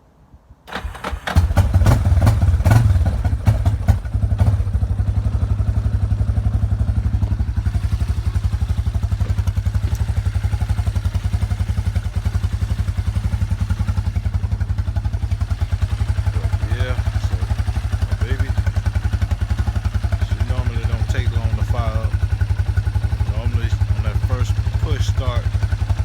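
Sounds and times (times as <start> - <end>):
atv engine starting and idling: 0.7 - 26.0.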